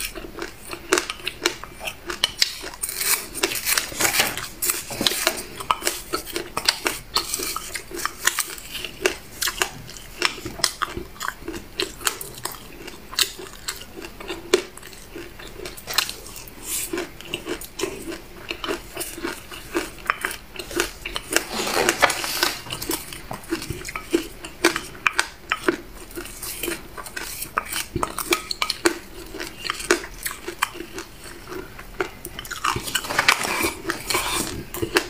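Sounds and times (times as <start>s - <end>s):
chewing crunchy seeds: 0.0s - 35.0s.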